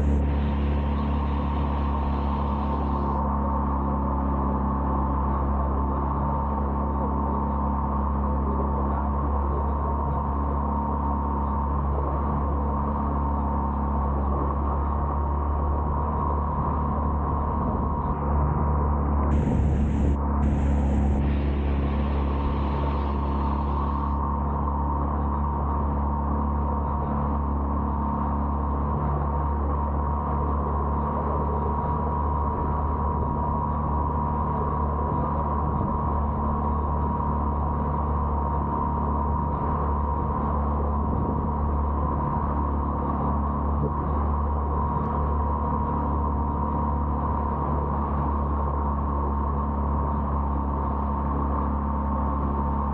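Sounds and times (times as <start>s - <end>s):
boat engine drone: 0.0s - 52.9s.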